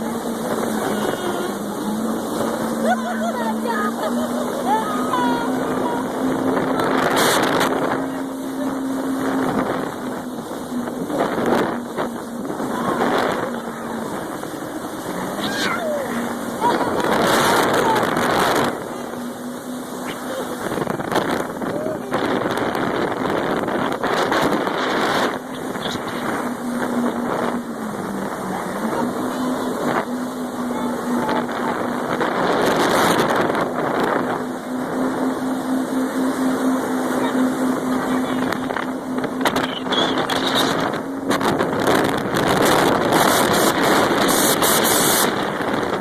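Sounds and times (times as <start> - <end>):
jet ski engine running: 0.0 - 46.0
rush of wind and water: 0.0 - 46.0.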